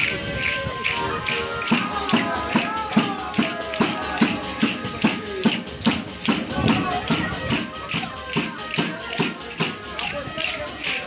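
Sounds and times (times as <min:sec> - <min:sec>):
folk melody line: 0:00.0 - 0:11.0.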